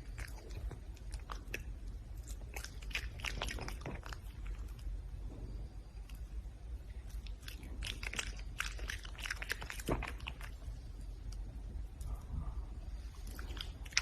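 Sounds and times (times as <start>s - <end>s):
animal chewing and crunching food: 0.0s - 14.0s.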